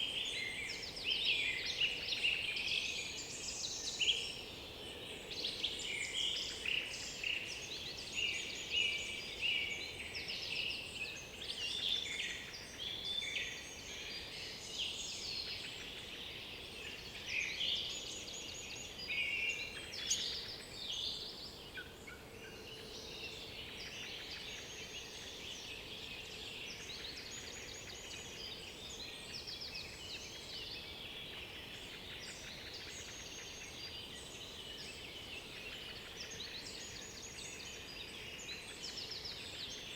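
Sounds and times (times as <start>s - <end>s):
songbirds chorus: 0.0s - 39.9s.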